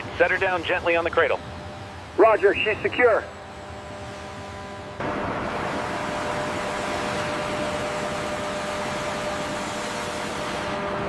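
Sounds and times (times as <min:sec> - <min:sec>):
faint hum tones: 0:00.0 - 0:11.0
mechanical rushing drone: 0:00.0 - 0:11.0.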